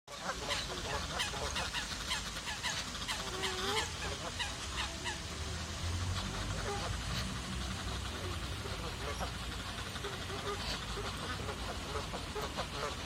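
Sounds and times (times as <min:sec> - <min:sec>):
birds honking and chattering: 0:00.1 - 0:13.0
steady low rumble: 0:00.1 - 0:13.0.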